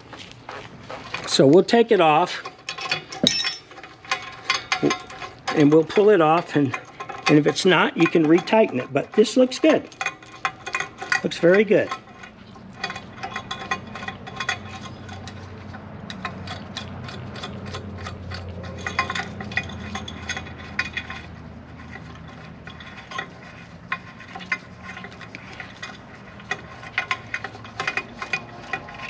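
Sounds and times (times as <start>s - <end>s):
nut spinning on threaded rod: 1.8s - 29.0s
small steel parts clinking: 2.2s - 29.0s
ratcheting wrench clicking: 2.6s - 29.0s.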